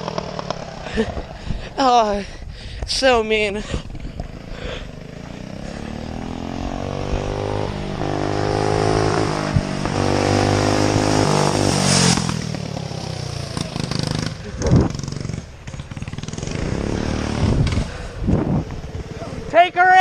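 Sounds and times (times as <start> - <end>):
kart engine revving: 0.0 - 1.8, 3.9 - 20.0.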